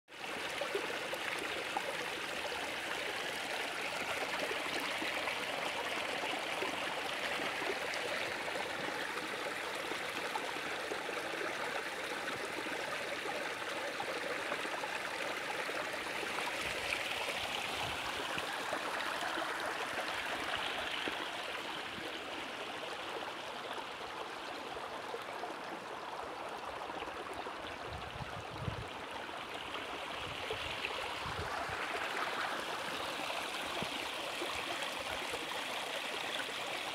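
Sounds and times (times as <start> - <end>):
stream rushing water: 0.2 - 36.9.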